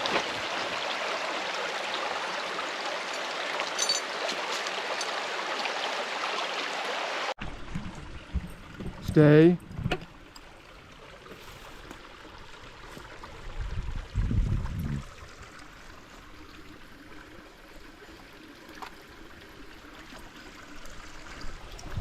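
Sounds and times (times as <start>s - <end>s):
creek water trickling: 0.0s - 22.0s.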